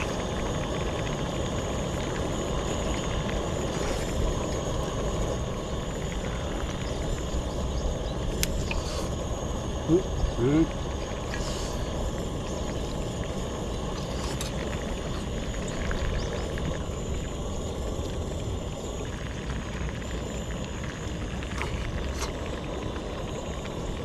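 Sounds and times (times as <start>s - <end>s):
steady low rumbling: 0.0s - 24.0s.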